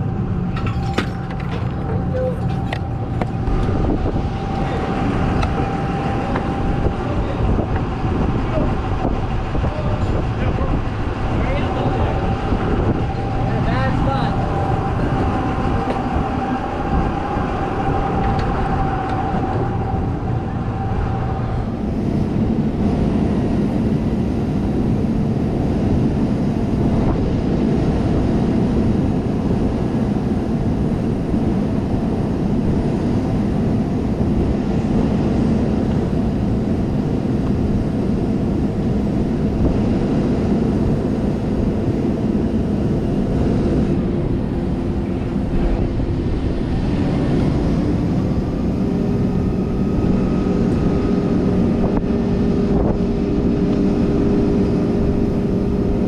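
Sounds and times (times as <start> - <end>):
heavy engine running: 0.0 - 56.0.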